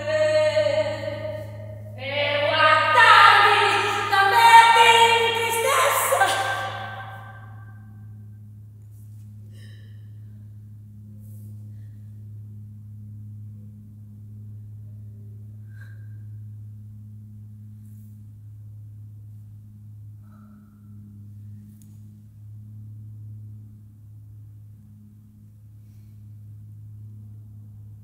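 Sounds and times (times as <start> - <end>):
steady low drone: 0.0 - 28.0.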